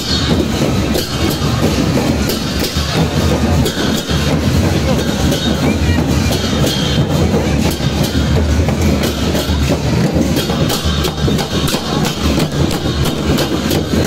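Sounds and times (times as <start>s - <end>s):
wooden chariot rumbling: 0.0s - 14.0s.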